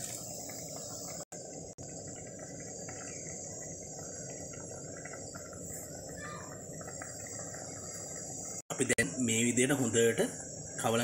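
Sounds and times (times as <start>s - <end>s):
crickets trilling: 0.0s - 11.0s
low even hum: 0.0s - 11.0s.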